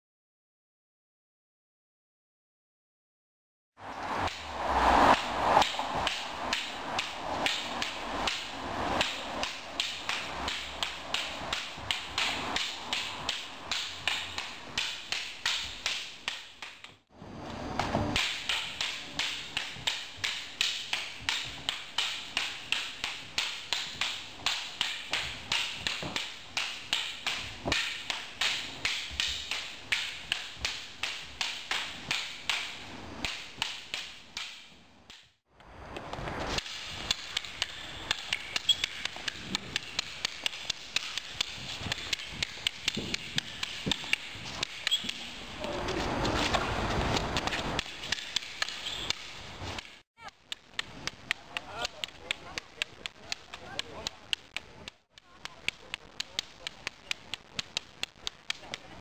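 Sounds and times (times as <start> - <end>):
wooden sticks clacking: 4.0 - 17.0, 18.2 - 35.3, 36.5 - 59.0.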